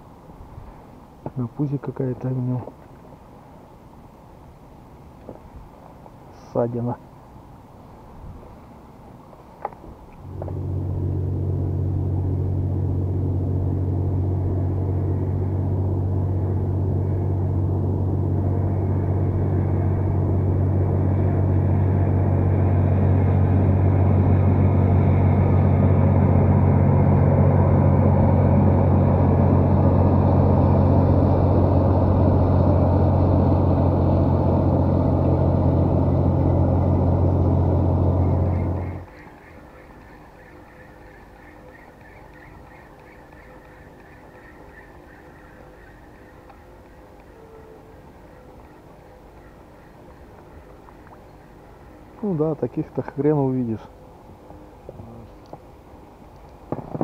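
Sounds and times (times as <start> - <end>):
boat engine drone: 10.2 - 56.2.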